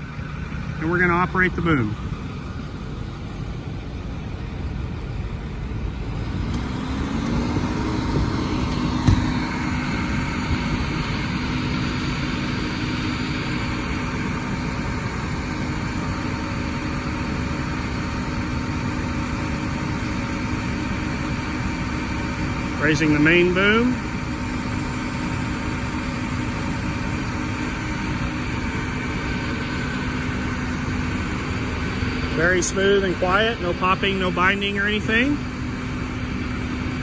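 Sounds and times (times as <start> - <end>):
diesel engine idling: 0.0 - 37.0
hydraulic hum: 0.0 - 37.0.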